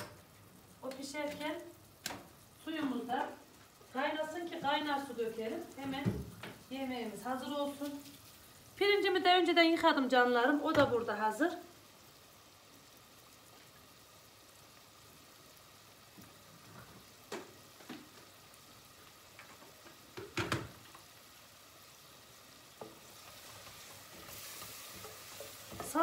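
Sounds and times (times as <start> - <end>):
paste sizzling in a pot: 0.0 - 26.0.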